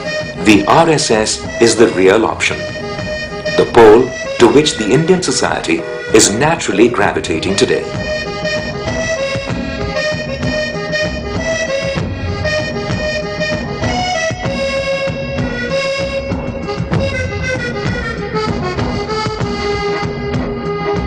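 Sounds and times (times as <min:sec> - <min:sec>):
light percussion beat: 0:00.0 - 0:21.0
reedy melody: 0:00.0 - 0:21.0.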